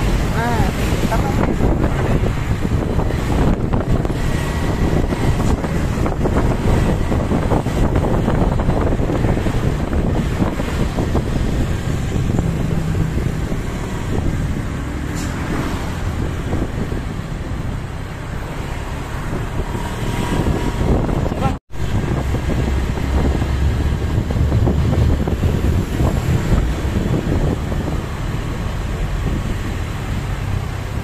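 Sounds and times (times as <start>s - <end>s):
vehicle rumble on road: 0.0s - 31.0s
wind buffeting microphone: 0.0s - 31.0s.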